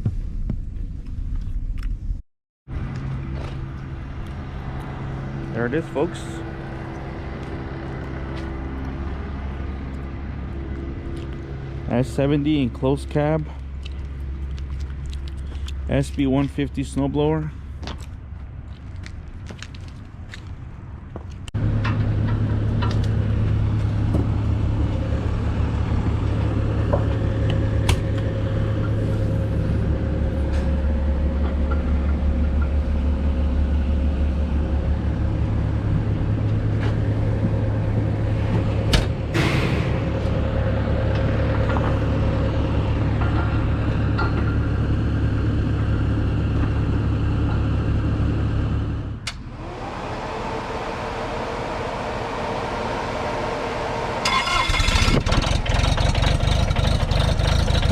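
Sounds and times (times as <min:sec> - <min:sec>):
vehicle engine droning: 0:02.7 - 0:57.9.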